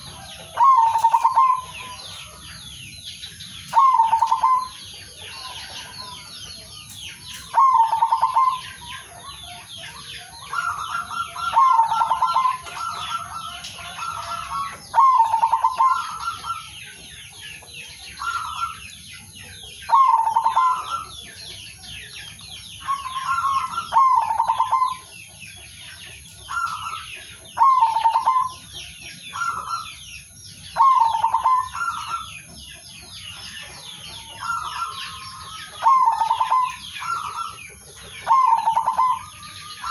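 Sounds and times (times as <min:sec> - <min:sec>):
dove cooing: 0:00.0 - 0:06.3, 0:07.3 - 0:39.9
birds chirping: 0:00.0 - 0:39.9.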